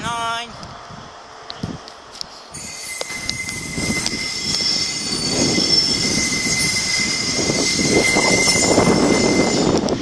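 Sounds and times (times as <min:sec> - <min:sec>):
diesel train whine and rumble: 0:00.0 - 0:10.0.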